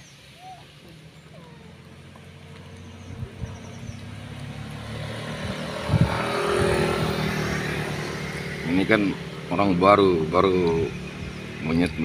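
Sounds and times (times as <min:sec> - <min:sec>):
vehicle engine approaching: 0:00.0 - 0:12.0.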